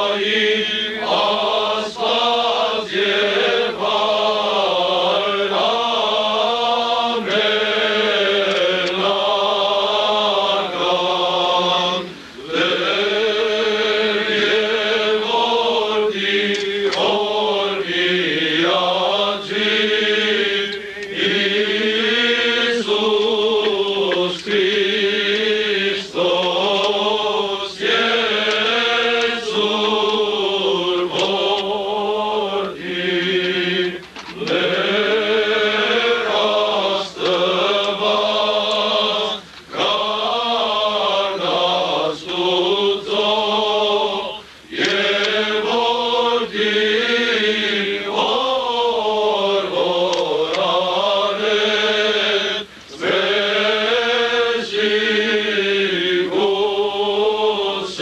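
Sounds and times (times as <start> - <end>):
men chanting in unison: 0.0 - 58.0.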